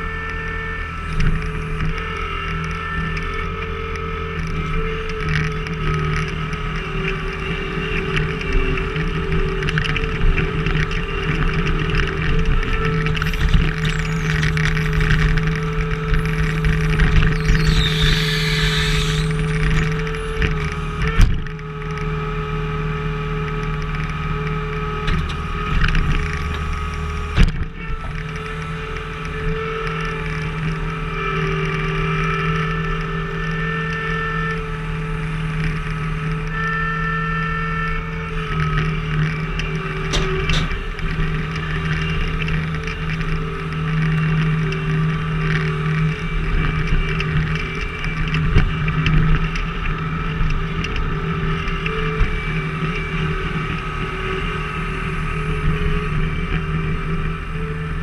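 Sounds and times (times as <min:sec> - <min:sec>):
machine whine: 0:00.0 - 0:58.0
skid steer engine running: 0:00.0 - 0:58.0.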